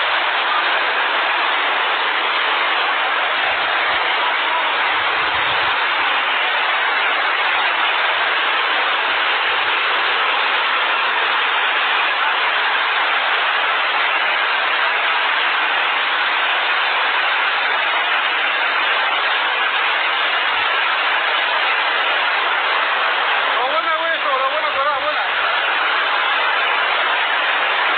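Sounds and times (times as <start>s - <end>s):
rushing flood water: 0.0s - 27.9s.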